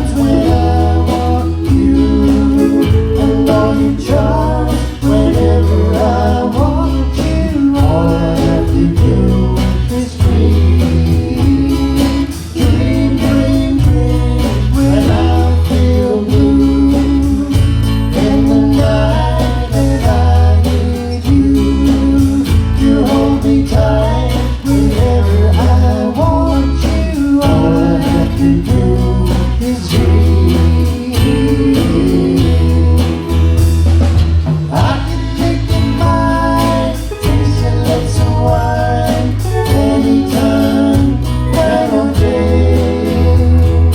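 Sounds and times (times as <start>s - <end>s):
person singing: 0.0s - 33.8s, 34.6s - 43.9s
bass: 0.0s - 43.9s
guitar: 0.0s - 43.9s.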